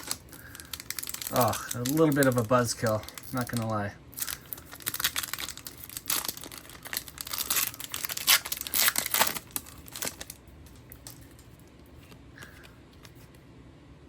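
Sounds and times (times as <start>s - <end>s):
wrapper tearing and crumpling: 0.0s - 11.4s.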